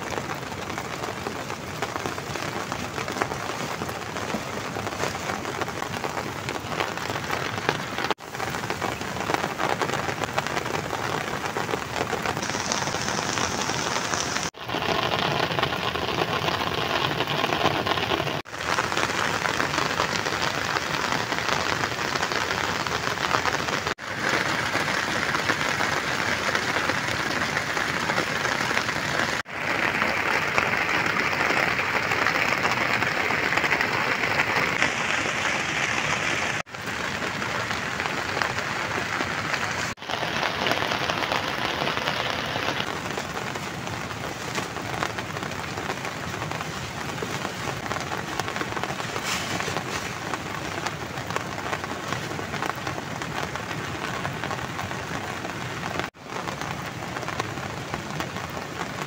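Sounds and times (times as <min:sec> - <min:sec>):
heavy rain on grass and tent: 0:00.0 - 0:59.0.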